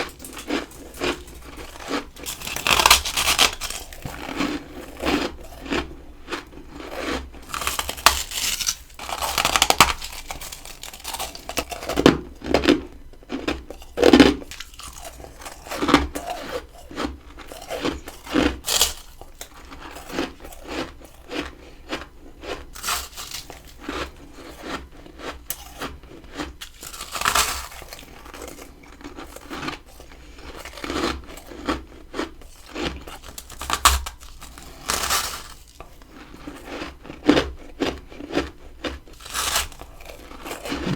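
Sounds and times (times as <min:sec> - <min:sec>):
crunching frost: 0:00.0 - 0:21.5, 0:22.8 - 0:40.9.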